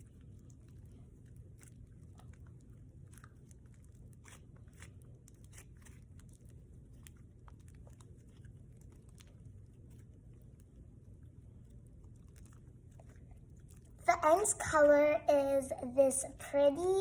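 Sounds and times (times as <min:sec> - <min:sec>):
slime squished by hand: 0:00.0 - 0:15.4.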